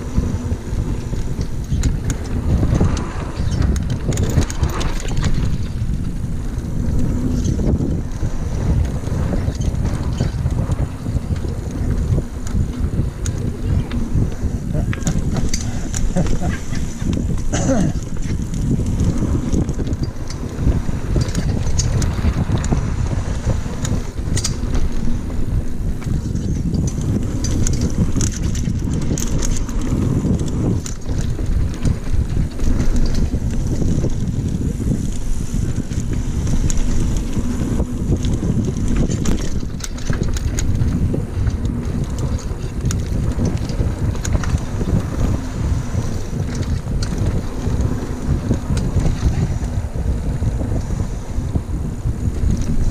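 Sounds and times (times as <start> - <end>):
bike clicks and rattles: 0.0 - 52.9
tyres rumbling on dirt: 0.0 - 52.9
wind buffeting microphone: 0.0 - 52.9.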